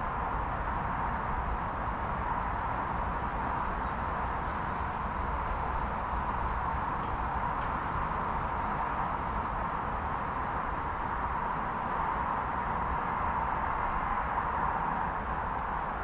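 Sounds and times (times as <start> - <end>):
constant even hiss: 0.0 - 16.0.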